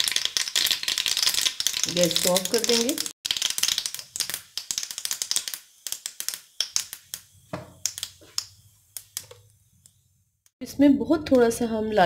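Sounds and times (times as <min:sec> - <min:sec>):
seeds popping in hot oil: 0:00.0 - 0:10.6.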